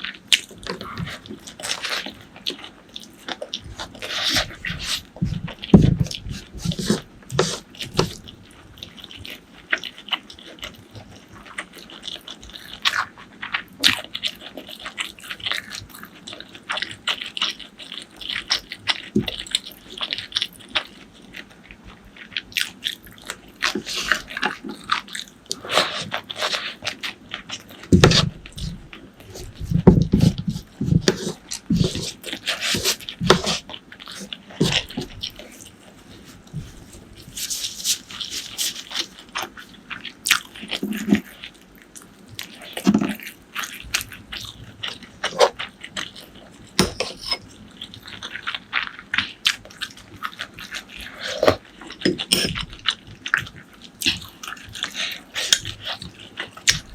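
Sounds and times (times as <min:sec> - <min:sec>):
chewing and mouth smacks: 0:00.0 - 0:56.9.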